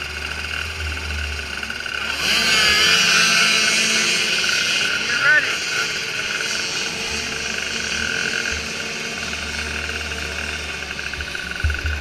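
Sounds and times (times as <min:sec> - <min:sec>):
small engines droning: 0:00.0 - 0:12.0.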